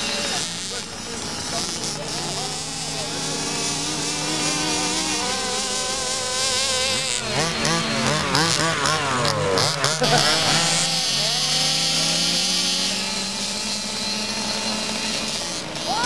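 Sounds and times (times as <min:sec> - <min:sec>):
small two-stroke engines buzzing: 0:00.0 - 0:16.0.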